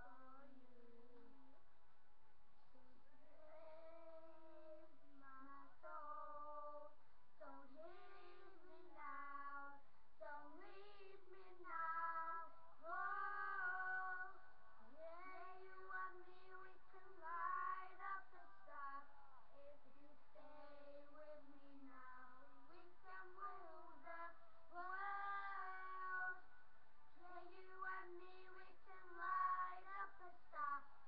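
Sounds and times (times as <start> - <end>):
person singing unaccompanied: 0.0 - 1.6, 2.7 - 26.5, 27.1 - 31.0.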